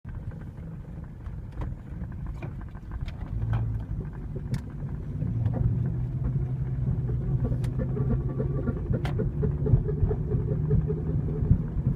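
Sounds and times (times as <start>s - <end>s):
car engine rumbling: 0.1s - 11.9s
sharp axle clicks: 1.5s - 11.9s.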